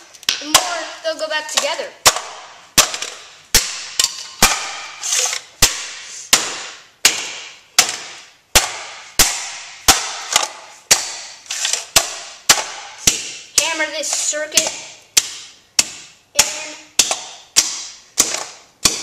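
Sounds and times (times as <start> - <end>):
hammer smashing plastic speaker: 1.6 - 13.7, 14.6 - 19.0.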